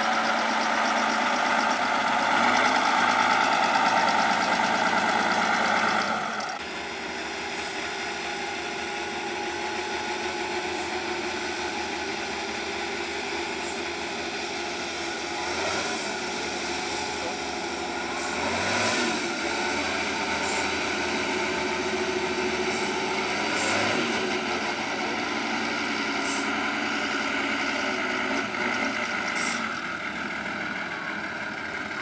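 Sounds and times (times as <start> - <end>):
diesel truck engine running: 0.0 - 32.0.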